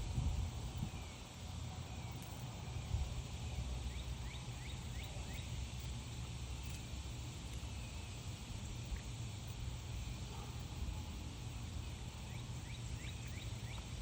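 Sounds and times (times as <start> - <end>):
low rumble and hiss: 0.0 - 14.0
birds chirping: 0.4 - 14.0.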